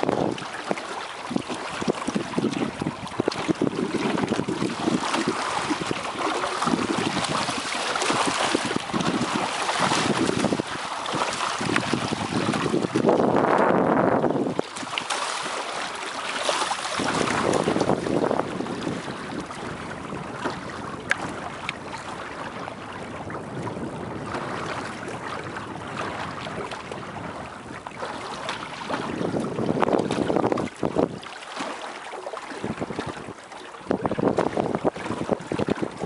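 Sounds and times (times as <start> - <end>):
wind buffeting microphone: 0.0 - 15.6, 16.3 - 31.4, 32.4 - 36.0
water splashing along hull: 0.0 - 36.0.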